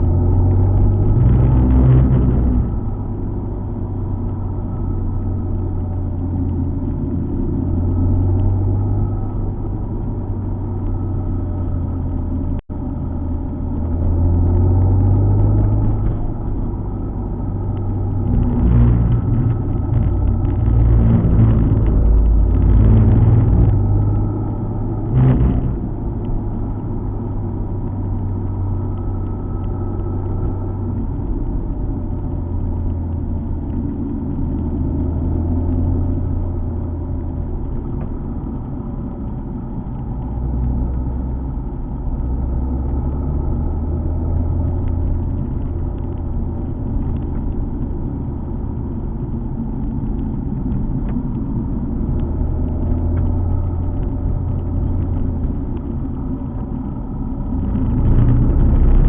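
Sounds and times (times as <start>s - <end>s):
car engine rumbling: 0.0s - 59.0s
tyre and road noise: 0.0s - 59.0s.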